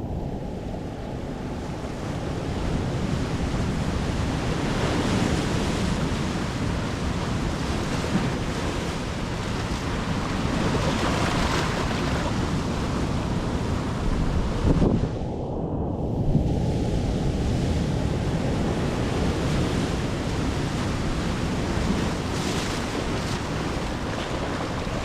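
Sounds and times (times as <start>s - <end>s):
ocean surf on shore: 0.0s - 15.2s, 16.7s - 25.0s
wind rumbling on microphone: 0.0s - 25.0s.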